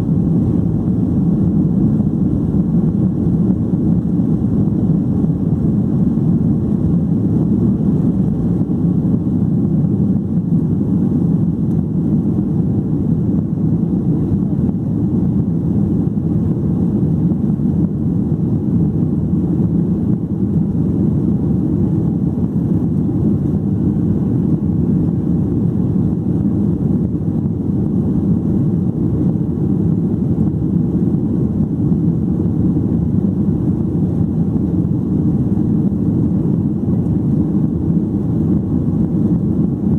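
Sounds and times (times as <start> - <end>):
jet engine roar in cabin: 0.0 - 39.9.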